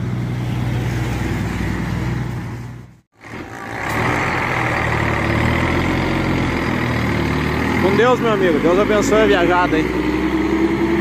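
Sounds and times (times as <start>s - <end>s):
diesel truck engine idling: 0.0s - 10.5s.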